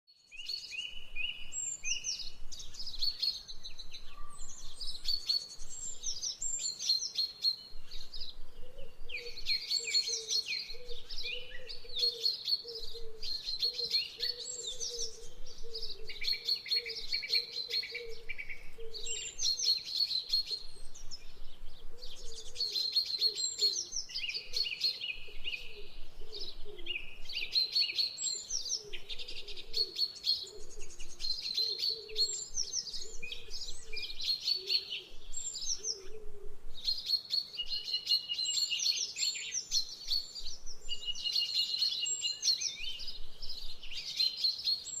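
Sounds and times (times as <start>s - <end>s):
songbirds singing and chirping: 0.1s - 45.0s.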